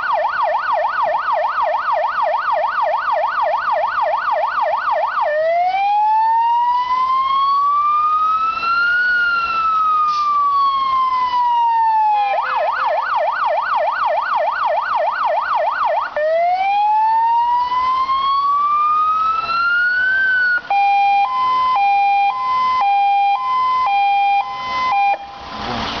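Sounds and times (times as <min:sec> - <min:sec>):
fire engine electronic siren: 0:00.0 - 0:26.0.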